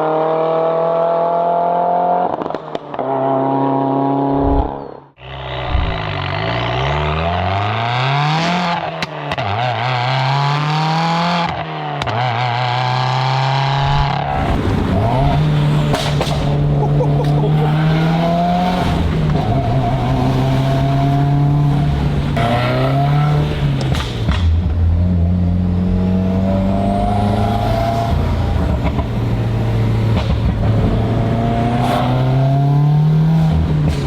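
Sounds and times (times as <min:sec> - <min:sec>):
car engine accelerating through gears: 0:00.0 - 0:34.0.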